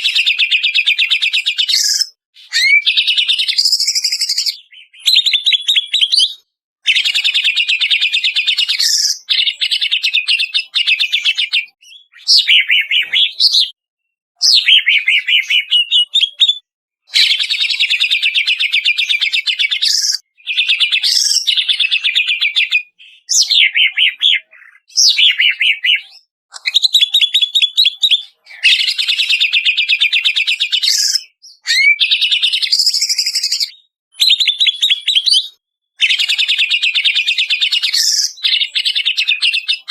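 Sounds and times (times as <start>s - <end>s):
bird trills and whistles: 0.0s - 13.8s, 14.4s - 39.9s.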